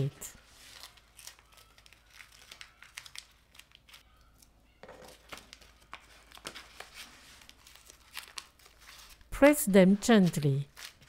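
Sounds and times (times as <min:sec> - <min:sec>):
seaweed sheets crinkling: 0:00.5 - 0:09.3, 0:10.3 - 0:11.0.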